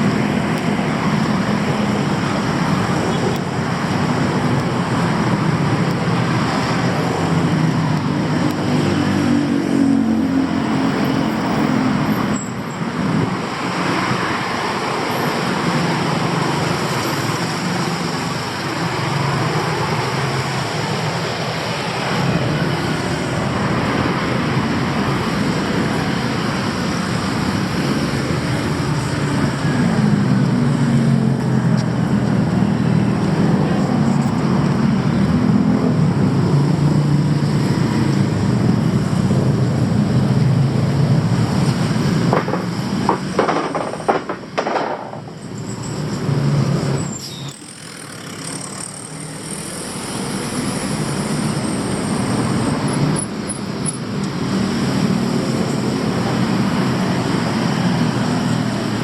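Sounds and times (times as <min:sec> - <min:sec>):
busy street traffic: 0:00.0 - 0:59.0
engines passing close by: 0:00.0 - 0:59.0.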